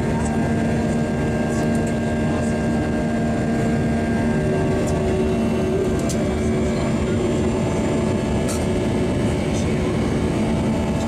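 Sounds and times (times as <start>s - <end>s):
jet engines roaring in cabin: 0.0s - 11.0s.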